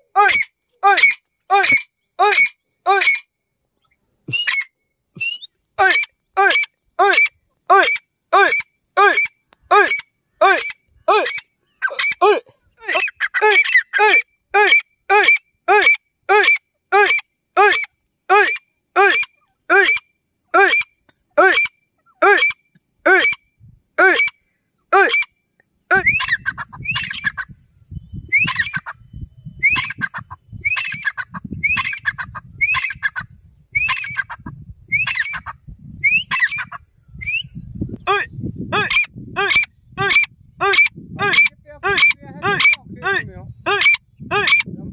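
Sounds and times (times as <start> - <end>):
francolin calling: 0.0 - 44.9.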